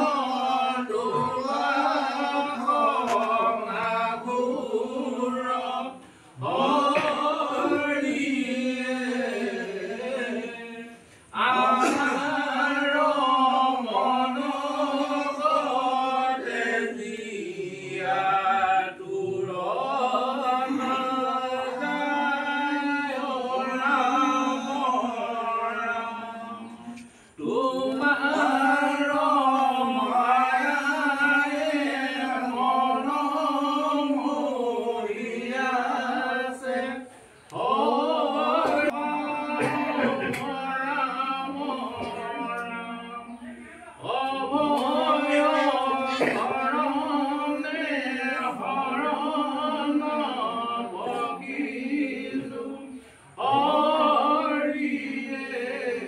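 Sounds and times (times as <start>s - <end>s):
men chanting a hymn: 0.0s - 56.0s.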